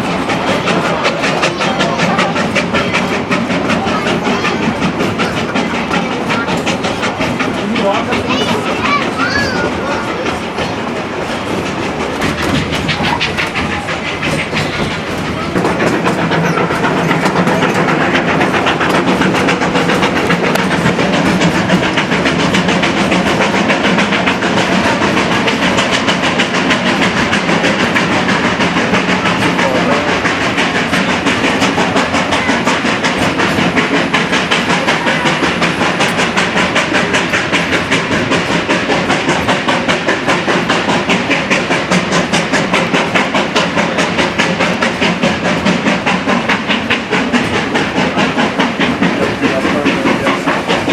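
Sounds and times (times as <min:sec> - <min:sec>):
steam locomotive chuffing: 0:00.0 - 0:50.9
train wheels on rails: 0:00.0 - 0:50.9.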